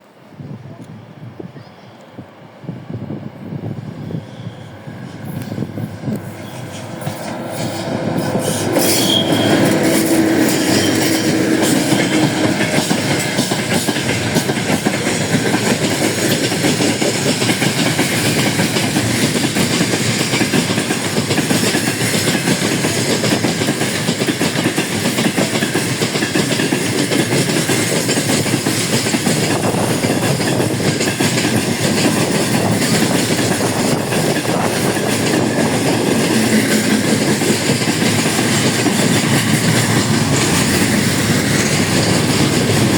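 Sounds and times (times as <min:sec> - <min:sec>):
train wheels on rails: 0:00.1 - 0:42.9.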